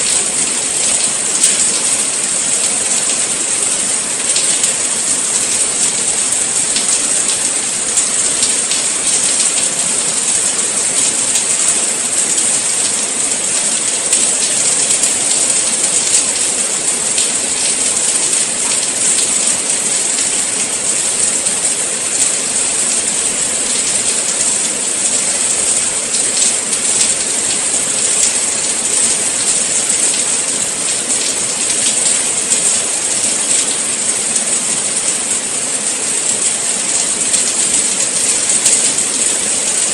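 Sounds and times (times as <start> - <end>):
rain hiss: 0.0 - 39.9
raindrops pattering: 0.0 - 39.9.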